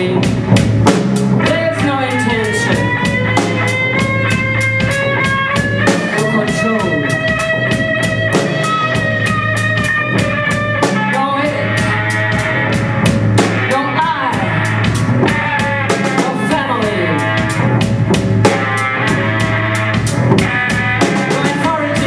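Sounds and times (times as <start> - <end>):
distorted instrument sliding down: 0.0 - 22.0
drum beat: 0.0 - 22.0.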